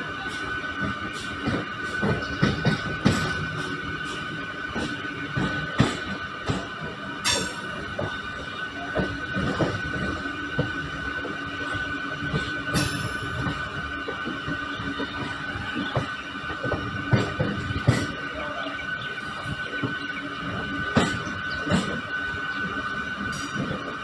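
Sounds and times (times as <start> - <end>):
steady train whine: 0.0 - 24.0
train wheels knocking and rattling: 0.3 - 18.3, 19.0 - 24.0.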